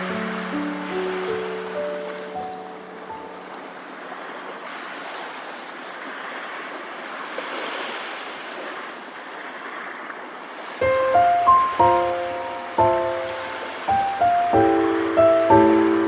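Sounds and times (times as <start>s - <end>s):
sea waves on shore: 0.0s - 16.0s.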